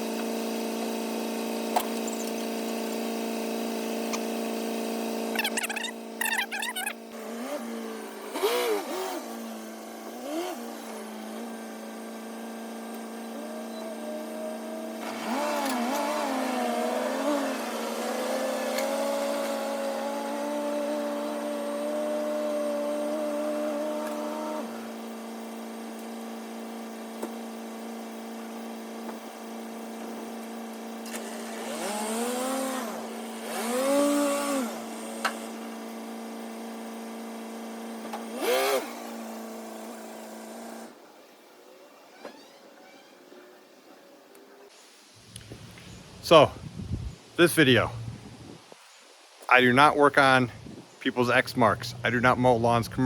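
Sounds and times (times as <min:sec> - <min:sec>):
lawn mower running: 0:00.0 - 0:40.8, 0:50.2 - 0:53.0.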